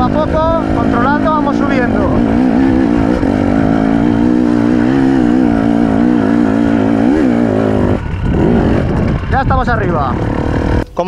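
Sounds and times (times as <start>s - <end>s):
motorcycle engine climbing: 0.0s - 11.0s.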